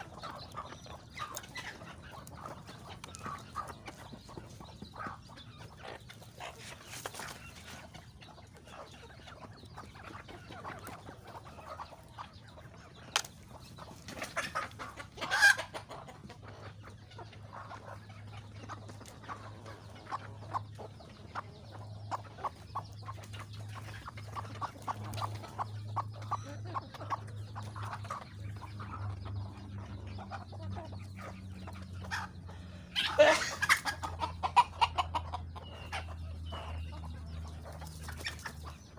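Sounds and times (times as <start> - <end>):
chickens clucking: 0.0 - 38.9
loud chicken calls: 0.0 - 38.9.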